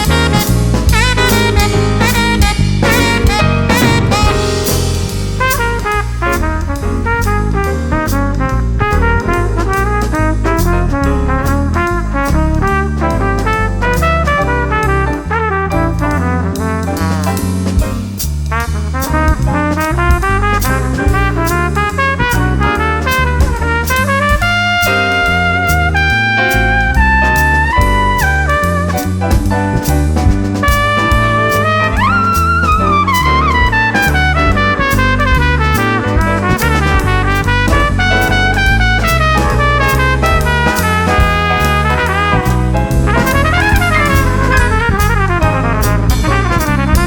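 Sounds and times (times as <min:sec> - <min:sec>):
fast trumpet solo: 0:00.0 - 0:47.0
jazz combo playing: 0:00.0 - 0:47.0.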